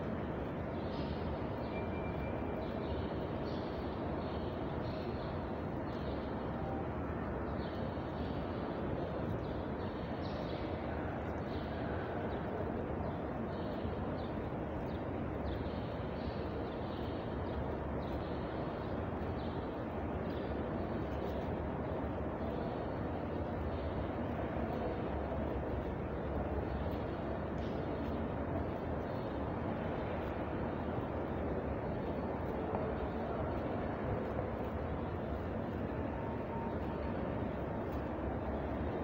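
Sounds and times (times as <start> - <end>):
rumbling hall background noise: 0.0 - 39.0.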